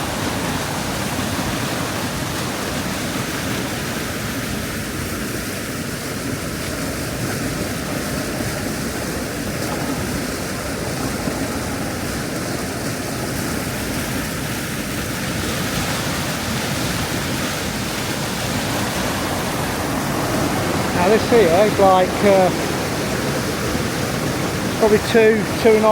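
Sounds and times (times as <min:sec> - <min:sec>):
river rushing: 0:00.0 - 0:25.9.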